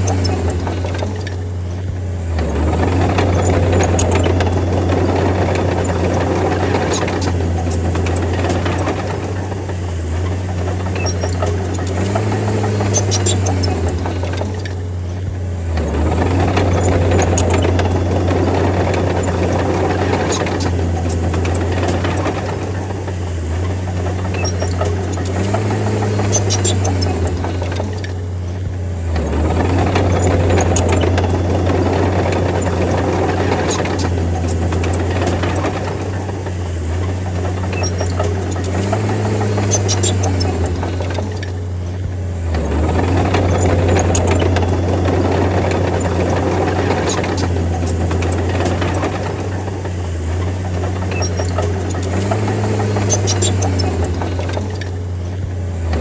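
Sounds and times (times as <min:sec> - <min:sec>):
bulldozer diesel engine working: 0:00.0 - 0:56.0
metallic clicking and rattling: 0:00.0 - 0:56.0.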